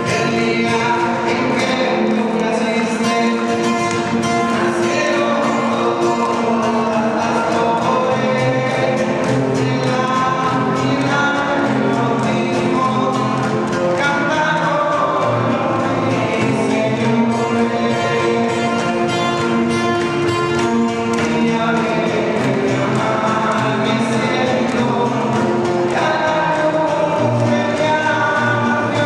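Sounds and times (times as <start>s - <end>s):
acoustic guitar playing: 0.0s - 29.0s
group of people singing: 0.0s - 29.0s.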